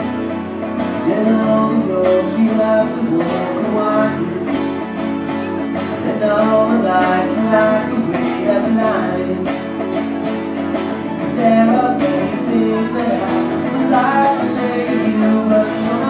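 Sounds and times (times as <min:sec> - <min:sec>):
electric guitar playing chords: 0:00.0 - 0:16.0
strummed acoustic guitar: 0:00.0 - 0:16.0
man singing: 0:00.8 - 0:04.8, 0:05.9 - 0:09.9, 0:11.0 - 0:16.0.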